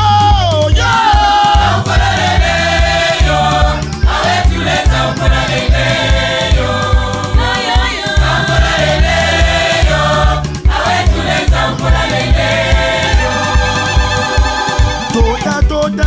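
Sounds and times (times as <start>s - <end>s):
drum beat and bass line: 0.0s - 16.0s
choir singing in harmony: 0.7s - 15.6s.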